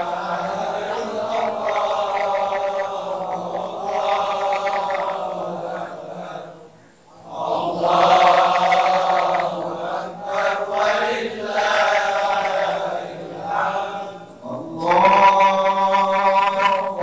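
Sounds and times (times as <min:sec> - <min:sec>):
person chanting melodically: 0:00.0 - 0:17.0.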